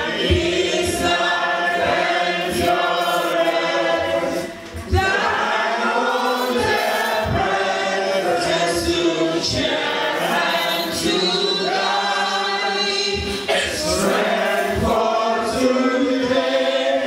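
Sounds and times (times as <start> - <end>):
women singing church song: 0.0 - 17.0.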